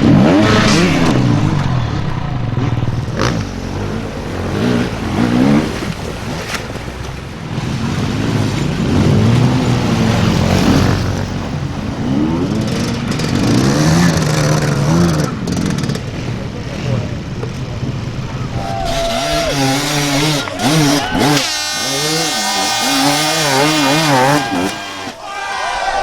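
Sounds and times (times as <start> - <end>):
dirt bike engine revving: 0.0 - 6.4, 7.3 - 25.3.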